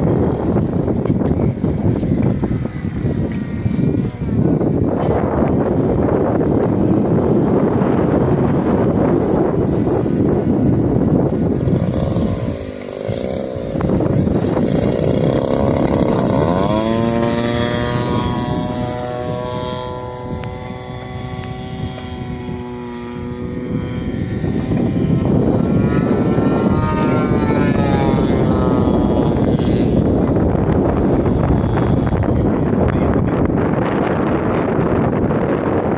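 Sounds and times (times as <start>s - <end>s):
model plane engine: 0.0s - 35.9s
wind on microphone: 0.0s - 35.9s.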